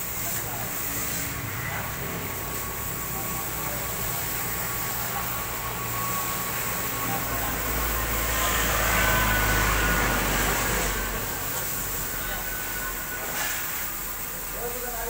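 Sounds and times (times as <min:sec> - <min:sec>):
water spray hissing on car: 0:00.0 - 0:15.0.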